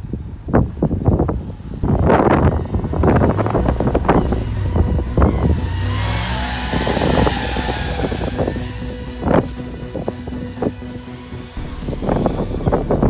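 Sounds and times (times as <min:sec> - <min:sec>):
wind buffeting microphone: 0:00.0 - 0:13.0
truck engine revving: 0:00.8 - 0:13.0.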